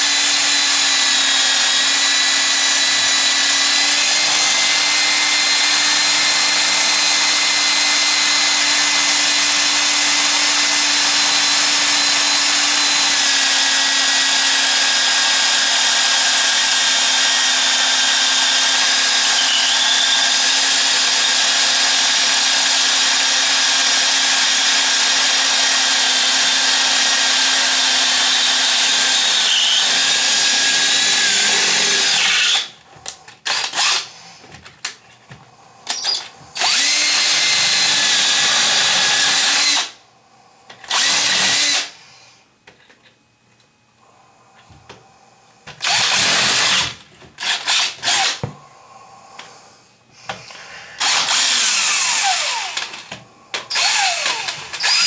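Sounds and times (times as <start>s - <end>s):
power tool whining: 0.0s - 34.7s, 35.8s - 40.0s, 40.7s - 42.0s, 45.7s - 48.6s, 50.2s - 55.0s.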